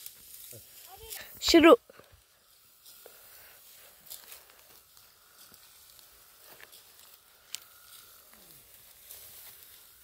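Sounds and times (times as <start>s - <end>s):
faint rustling of dry straw: 0.0s - 10.0s.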